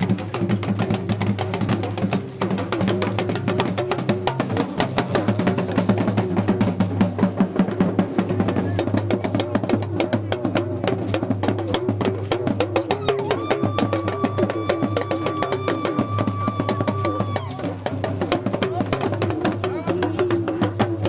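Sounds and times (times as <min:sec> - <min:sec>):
bass drum: 0:00.0 - 0:21.0
talking drums bending in pitch: 0:00.0 - 0:21.0.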